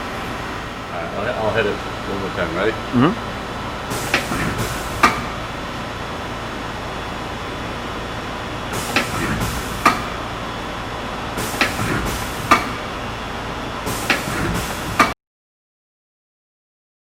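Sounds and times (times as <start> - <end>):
lathe running: 0.0 - 15.1.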